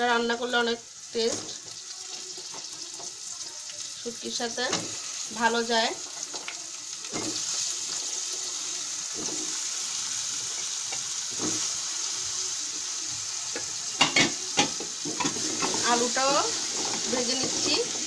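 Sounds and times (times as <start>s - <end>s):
potatoes sizzling in hot oil: 0.0s - 18.0s.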